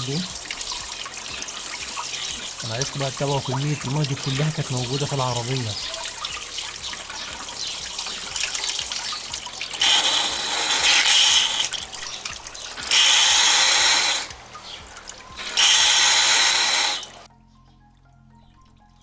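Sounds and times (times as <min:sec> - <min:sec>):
coolant draining and splashing: 0:00.0 - 0:17.3.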